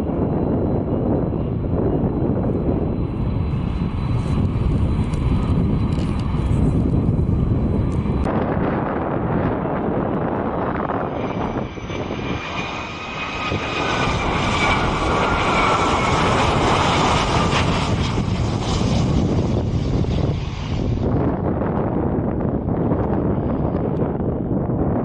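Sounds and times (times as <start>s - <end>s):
jet engines rumbling with high whine: 0.0s - 25.0s.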